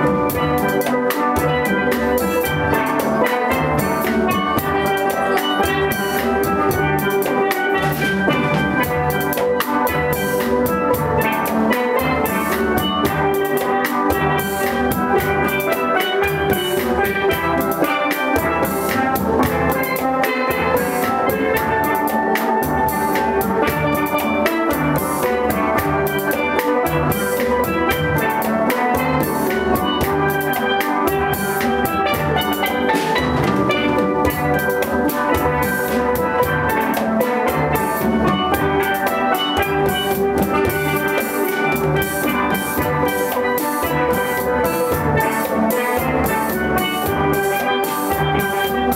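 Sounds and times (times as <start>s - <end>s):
steel pans ringing: 0.0s - 48.9s.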